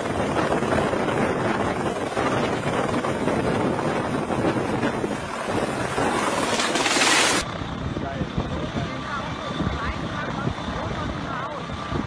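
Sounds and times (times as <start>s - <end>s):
helicopter hovering: 0.0s - 12.0s
rotor wind buffeting microphone: 0.0s - 12.0s.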